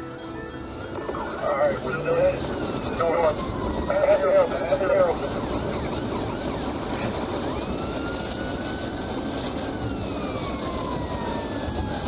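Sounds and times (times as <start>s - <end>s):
car engine and tyre noise: 0.0s - 12.0s
police siren wailing: 0.0s - 12.0s.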